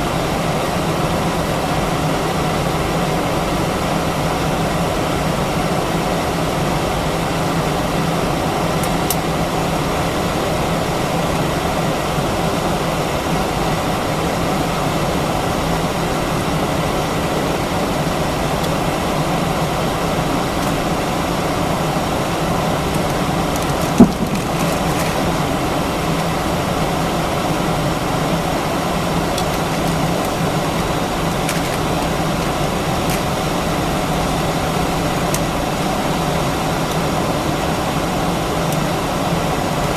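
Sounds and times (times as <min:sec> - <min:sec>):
aircraft cabin engine hum: 0:00.0 - 0:39.9.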